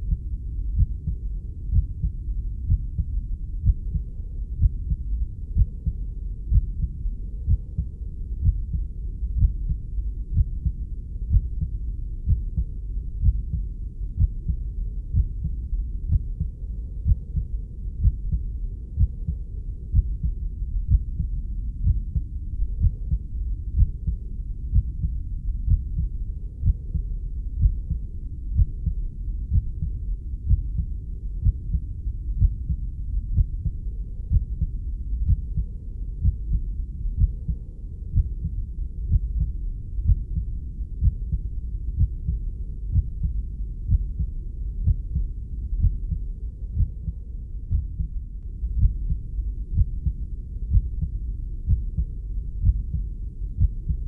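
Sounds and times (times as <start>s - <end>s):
heartbeat thumps: 0.0s - 54.0s
steady low rumble: 0.0s - 54.0s.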